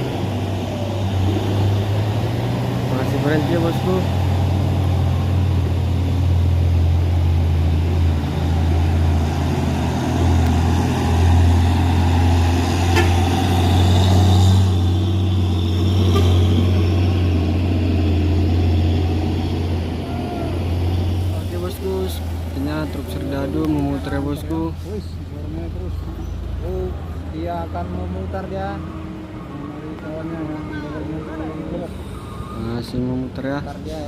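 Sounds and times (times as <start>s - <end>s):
diesel truck engine droning: 0.0s - 34.0s.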